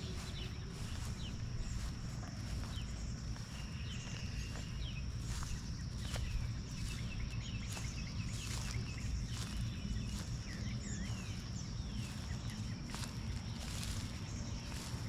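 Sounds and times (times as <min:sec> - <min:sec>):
footstep-like crunches: 0:00.0 - 0:15.0
small birds chirping: 0:00.0 - 0:15.0.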